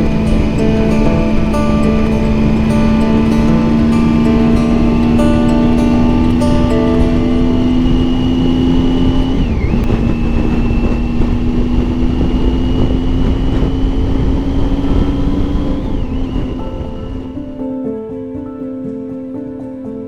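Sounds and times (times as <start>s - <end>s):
motorcycle engine cruising: 0.0s - 17.6s
wind and road rush: 0.0s - 17.6s.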